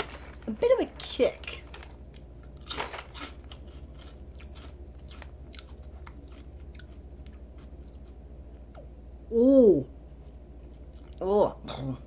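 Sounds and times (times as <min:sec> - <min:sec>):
crackers being chewed: 0:00.0 - 0:08.9, 0:10.0 - 0:11.2
steady low hum: 0:00.0 - 0:12.0.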